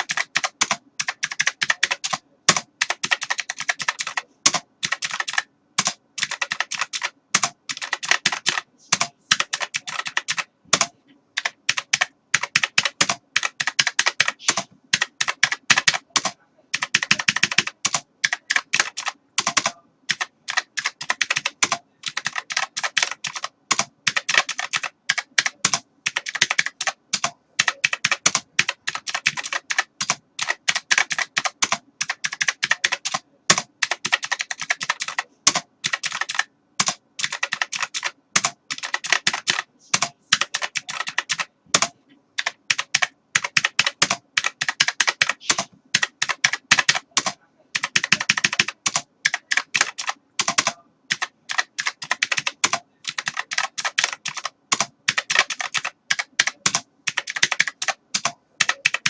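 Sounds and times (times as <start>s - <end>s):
keyboard typing: 0.0s - 59.0s.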